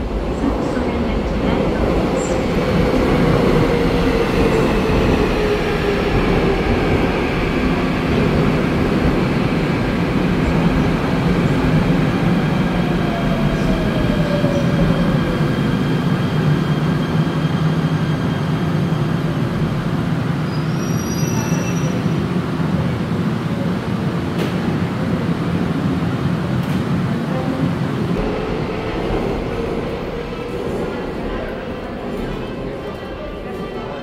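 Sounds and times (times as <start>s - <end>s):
subway train rumble: 0.0s - 34.0s.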